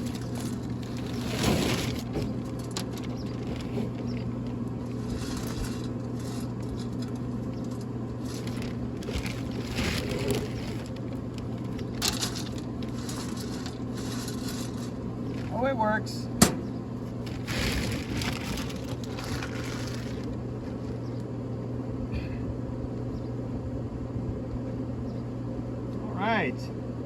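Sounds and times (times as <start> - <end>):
low electric motor hum: 0.0 - 27.0.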